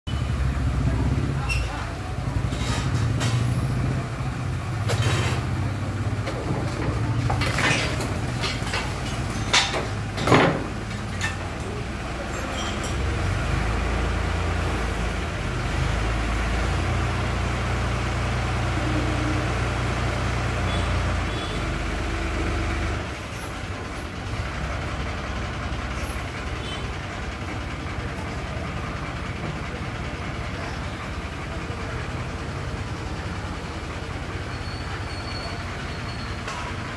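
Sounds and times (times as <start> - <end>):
crane engine running: 0.1 - 36.9.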